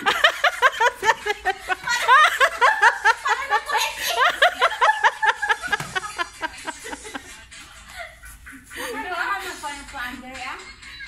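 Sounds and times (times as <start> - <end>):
women laughing hard: 0.0 - 9.7.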